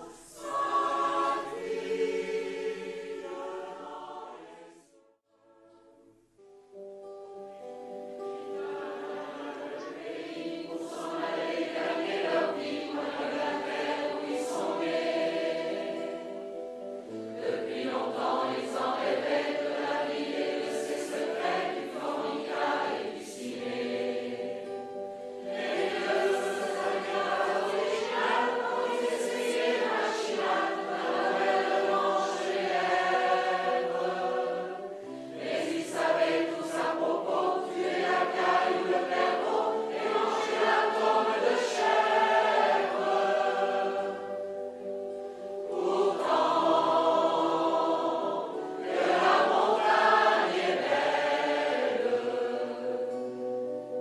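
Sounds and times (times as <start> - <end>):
mixed choir singing in harmony: 0.0 - 5.0, 8.2 - 54.0.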